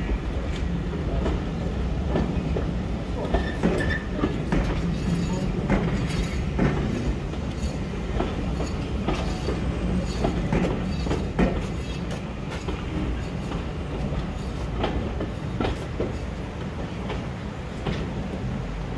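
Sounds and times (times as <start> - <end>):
steam locomotive running: 0.0 - 18.9.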